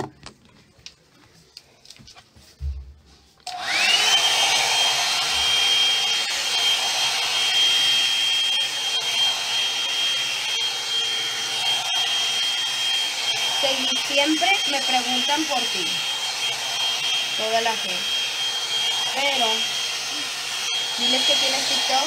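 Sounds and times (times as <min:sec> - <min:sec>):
hair dryer motor whine: 0:03.4 - 0:22.0.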